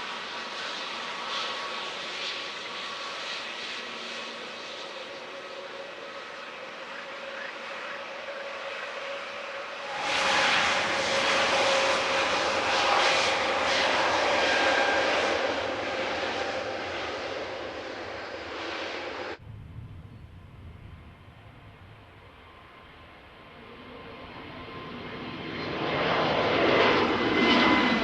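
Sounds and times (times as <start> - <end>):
jet engine roar and whine: 0.0 - 28.0.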